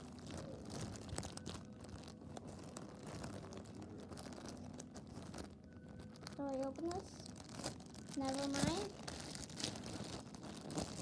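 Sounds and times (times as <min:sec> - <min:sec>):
rustling and crinkling: 0:00.0 - 0:11.0.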